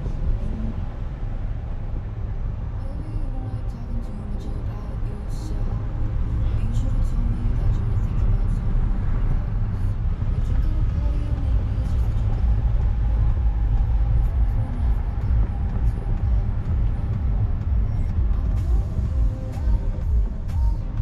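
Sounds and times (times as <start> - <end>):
traffic rumble inside car: 0.0 - 21.0.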